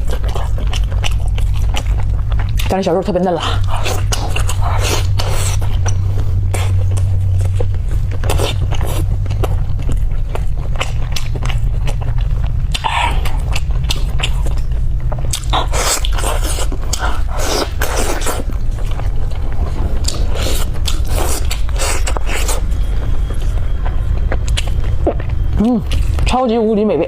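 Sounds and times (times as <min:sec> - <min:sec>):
chewing and gnawing bones: 0:00.0 - 0:27.0
steady low hum: 0:00.0 - 0:27.0.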